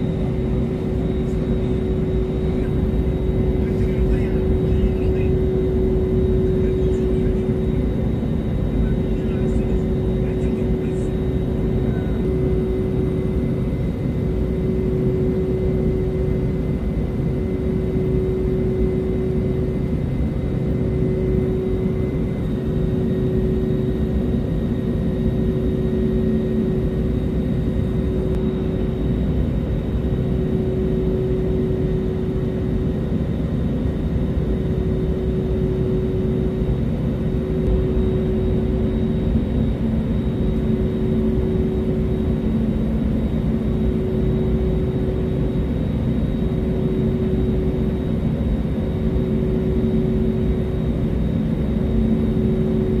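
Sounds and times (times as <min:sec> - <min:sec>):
airliner engines droning: 0:00.0 - 0:53.0.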